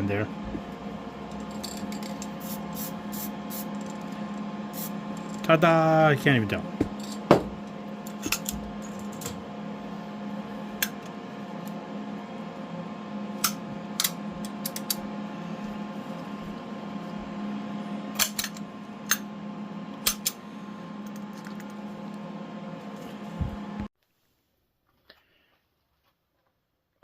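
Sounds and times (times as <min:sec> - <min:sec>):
steady mechanical hum: 0:00.0 - 0:23.9.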